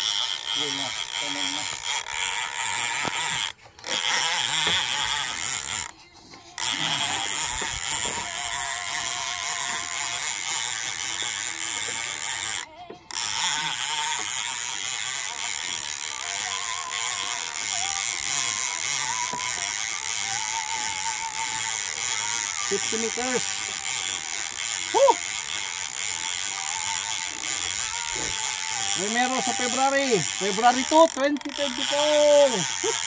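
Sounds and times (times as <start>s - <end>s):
fishing reel drag buzzing: 0.0s - 33.0s.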